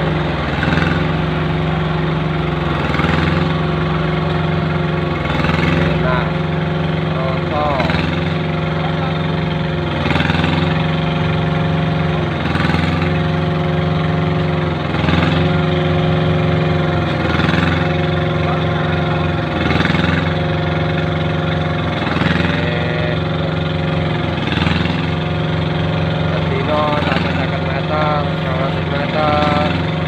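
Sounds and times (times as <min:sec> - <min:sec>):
small engine running loud: 0:00.0 - 0:30.0.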